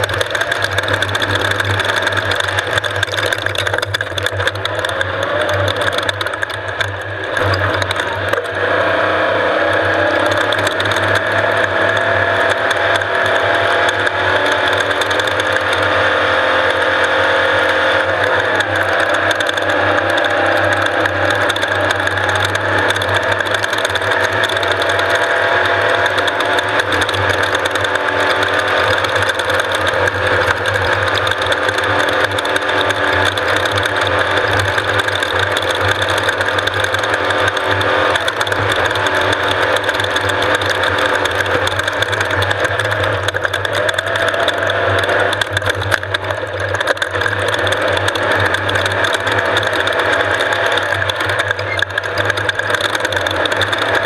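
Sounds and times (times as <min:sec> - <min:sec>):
loud mechanical rattle: 0:00.0 - 0:54.0
race vehicle engine drone: 0:00.0 - 0:54.0.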